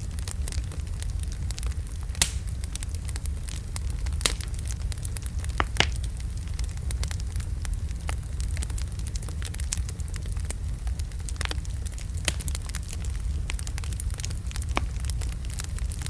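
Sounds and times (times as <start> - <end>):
fire crackles and pops: 0.0 - 16.0
low rumble of flame: 0.0 - 16.0.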